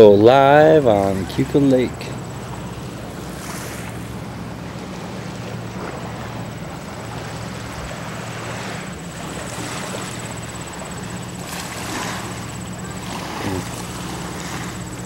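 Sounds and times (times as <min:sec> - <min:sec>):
distant engine drone: 0:00.0 - 0:15.0.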